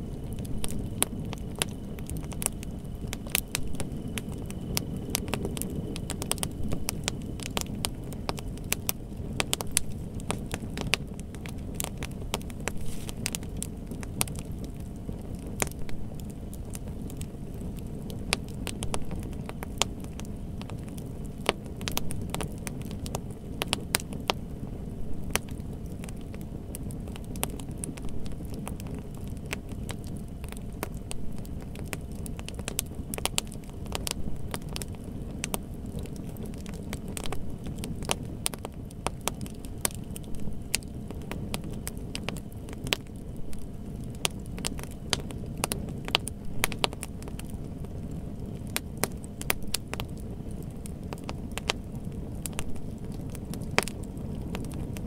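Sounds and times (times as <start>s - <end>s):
fire low rumble: 0.0s - 55.0s
wood fire crackling: 0.0s - 55.0s.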